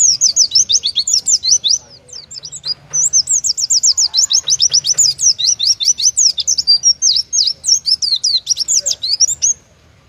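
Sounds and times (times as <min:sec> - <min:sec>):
bird singing fast high chirps: 0:00.0 - 0:09.8.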